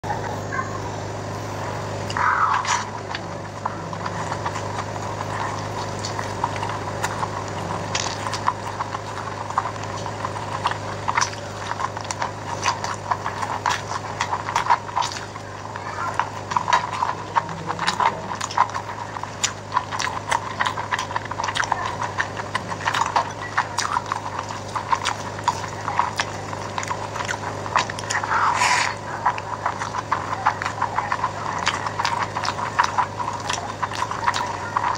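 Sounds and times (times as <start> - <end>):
person chewing with wet smacks: 0.0 - 34.9
steady low hum: 0.0 - 34.9.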